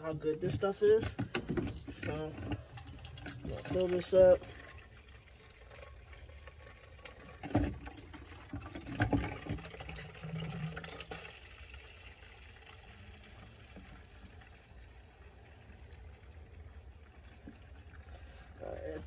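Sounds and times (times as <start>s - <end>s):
hose water filling plastic tank: 0.0s - 19.0s.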